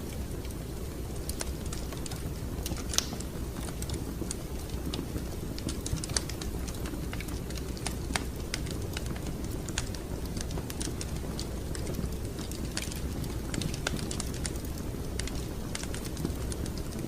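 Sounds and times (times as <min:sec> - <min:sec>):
wood fire crackling: 0:00.0 - 0:17.0
fire pops and snaps: 0:00.1 - 0:17.0.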